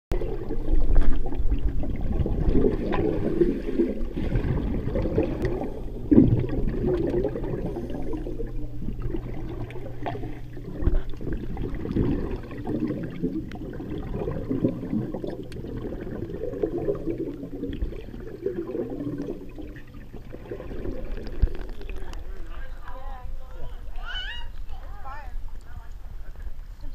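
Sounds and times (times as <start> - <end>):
muffled underwater bubbling: 0.1 - 24.4.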